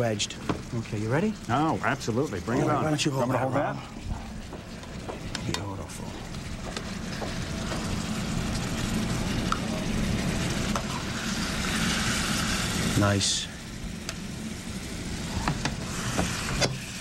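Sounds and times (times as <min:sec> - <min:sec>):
mushrooms sizzling in a frying pan: 0:00.0 - 0:17.0.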